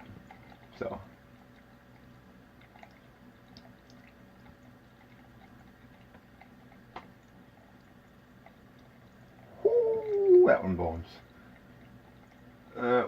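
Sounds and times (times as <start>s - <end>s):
low steady hum: 0.0s - 13.0s
small ticks and drips: 0.0s - 13.0s.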